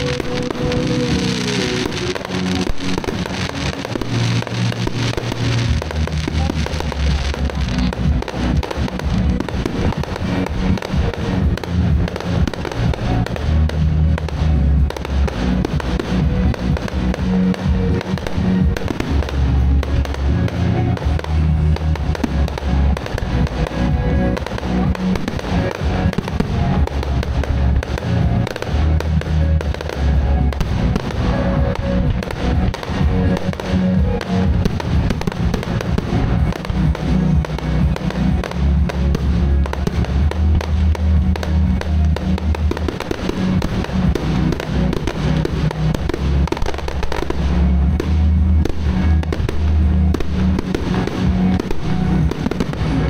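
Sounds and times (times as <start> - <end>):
fireworks bursting and crackling: 0.0 - 53.0
show music over loudspeakers: 0.0 - 53.0.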